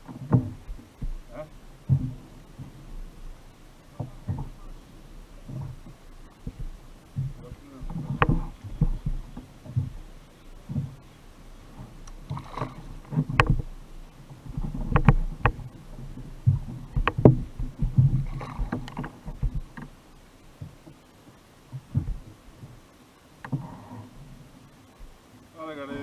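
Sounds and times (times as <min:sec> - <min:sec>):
knocks and bumps on kayak: 0:00.0 - 0:21.1, 0:21.7 - 0:22.8.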